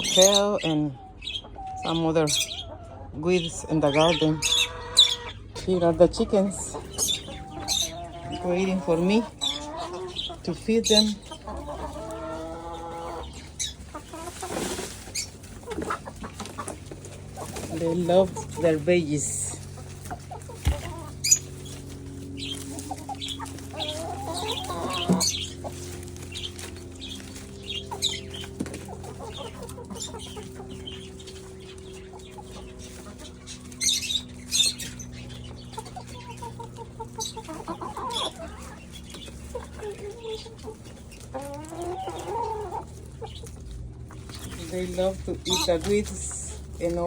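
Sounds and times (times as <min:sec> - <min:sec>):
chicken wavering calls: 0:00.0 - 0:47.0
chickens clucking: 0:00.0 - 0:47.0.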